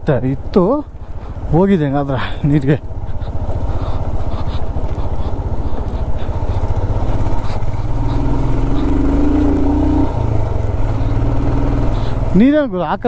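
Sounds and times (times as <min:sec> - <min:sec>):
motorcycle engine running: 0:00.0 - 0:13.0
van droning past: 0:00.0 - 0:13.0.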